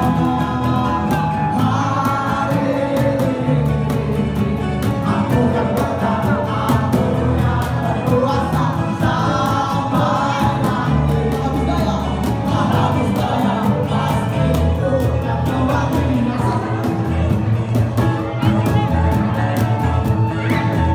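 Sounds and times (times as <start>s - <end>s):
crowd singing along: 0.0s - 20.9s
live folk band playing: 0.0s - 20.9s
man singing into microphone: 0.0s - 20.9s.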